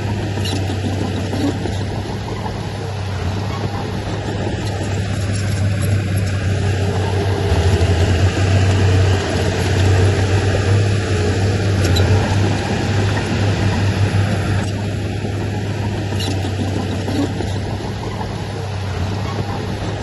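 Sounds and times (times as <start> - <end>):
heavy diesel engine drone: 0.0 - 20.0.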